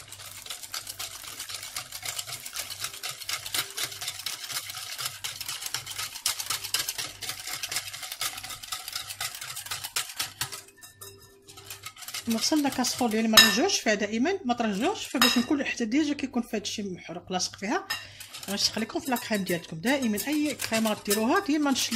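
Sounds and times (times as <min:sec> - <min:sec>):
utensil beating in mixing bowl: 0:00.0 - 0:15.8, 0:17.6 - 0:21.9.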